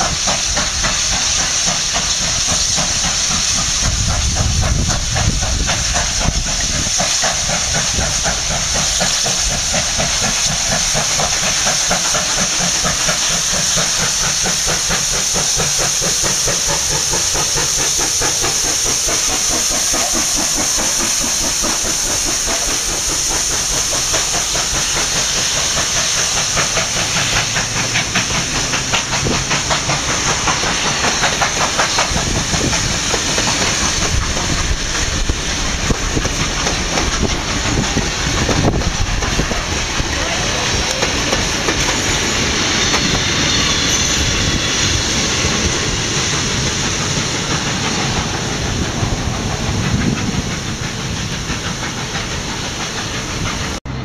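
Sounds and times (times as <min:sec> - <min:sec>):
steam hissing: 0:00.0 - 0:54.0
steam train passing: 0:00.0 - 0:54.0.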